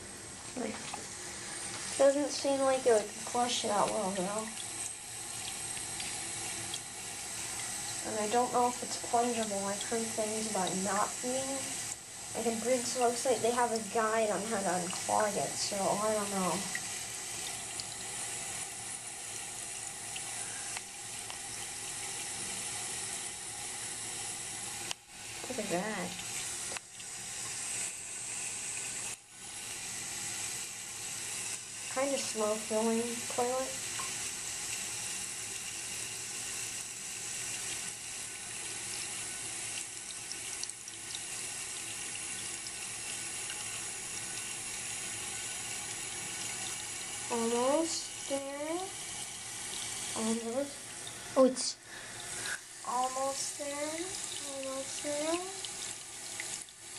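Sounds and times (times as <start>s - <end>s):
water hissing through fill valve: 0.0s - 56.9s.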